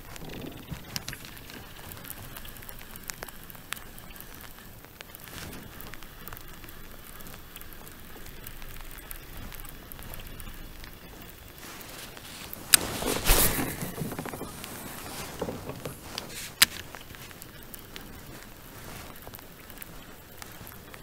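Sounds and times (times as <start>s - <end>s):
light rain on water: 0.0s - 21.0s
raindrops ticking near microphone: 0.0s - 21.0s.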